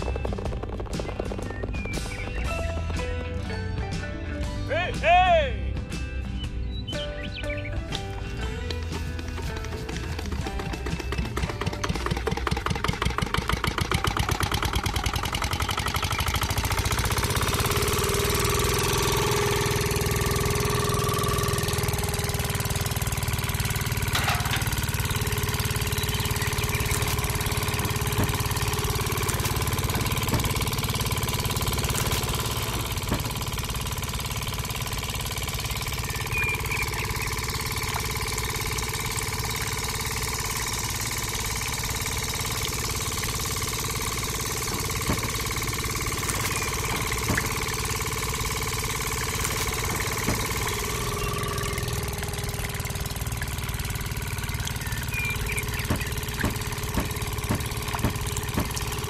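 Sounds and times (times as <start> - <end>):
model diesel engine running: 0.0 - 59.0.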